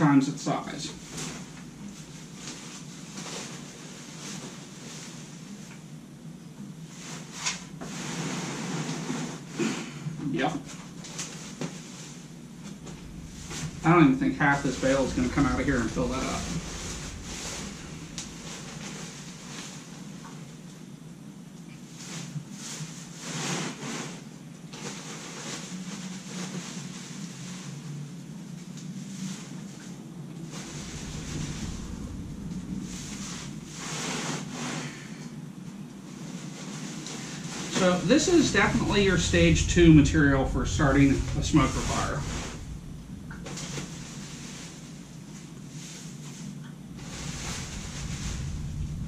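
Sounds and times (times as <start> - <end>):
steady low hum: 0.0 - 23.3, 26.9 - 49.0.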